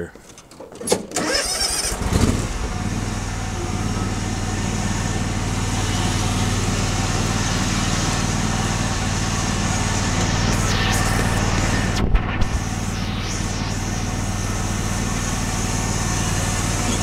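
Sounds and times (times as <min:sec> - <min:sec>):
riding lawn mower engine: 0:00.2 - 0:17.0.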